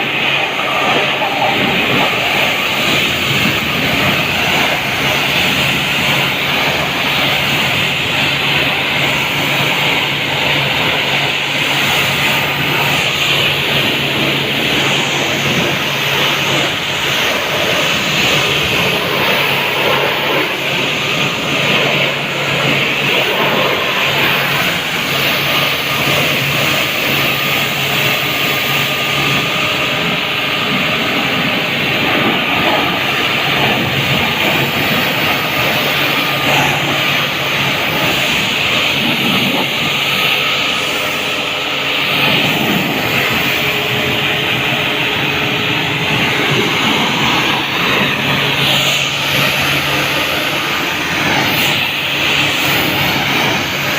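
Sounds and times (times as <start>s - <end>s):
low motor hum: 0.0s - 53.9s
pressure washer jet hissing: 0.0s - 53.9s.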